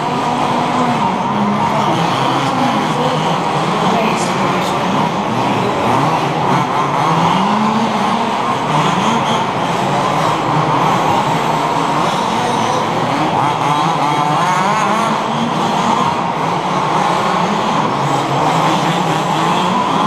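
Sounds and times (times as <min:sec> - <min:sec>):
rc car engines revving: 0:00.0 - 0:20.0.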